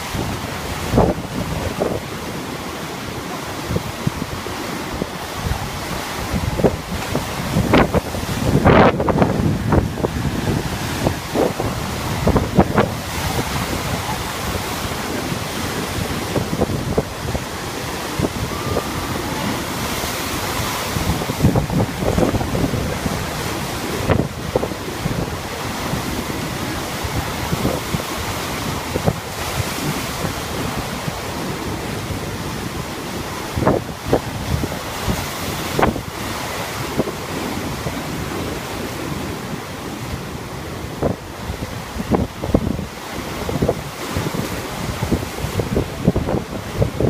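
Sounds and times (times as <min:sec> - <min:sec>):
surf crashing against rocks: 0:00.0 - 0:47.0
wind buffeting microphone: 0:00.0 - 0:47.0.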